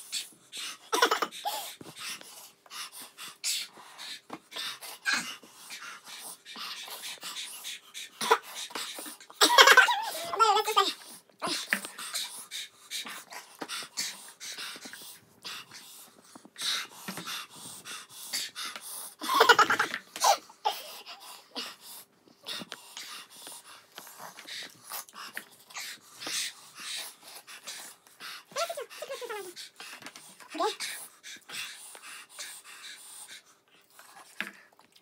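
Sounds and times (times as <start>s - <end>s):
hissing breaths and gasps: 0.0s - 35.0s.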